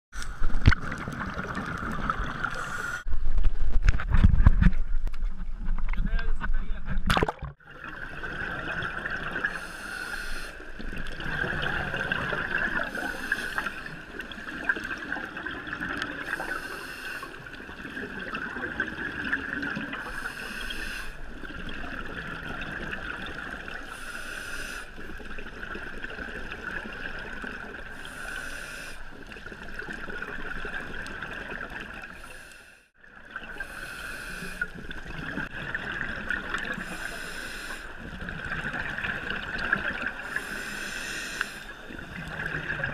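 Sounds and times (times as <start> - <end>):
exhaled bubbles hissing: 0.3 - 3.1, 7.2 - 42.9.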